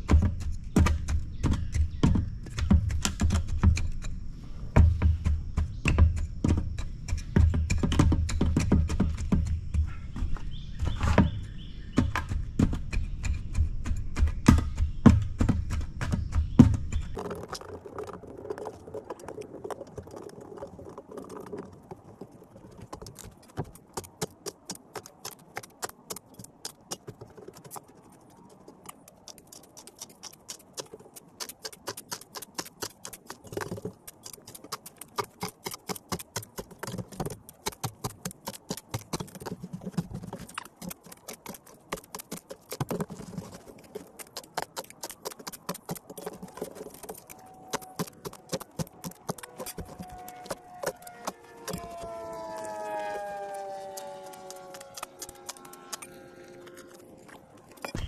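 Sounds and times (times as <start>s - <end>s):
taps and crunches in dirt: 0.0s - 58.0s.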